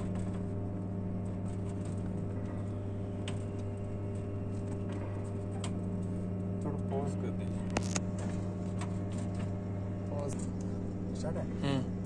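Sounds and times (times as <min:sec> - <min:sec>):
deep electrical hum: 0:00.0 - 0:12.0.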